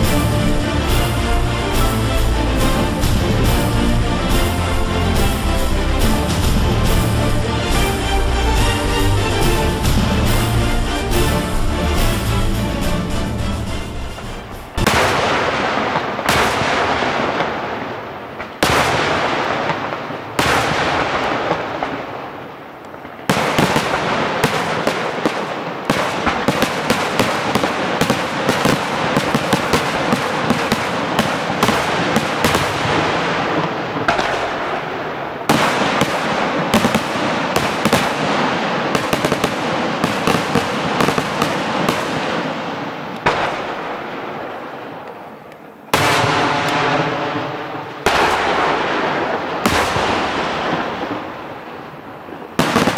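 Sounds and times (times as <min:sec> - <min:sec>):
firework crackling: 0:00.0 - 0:52.9.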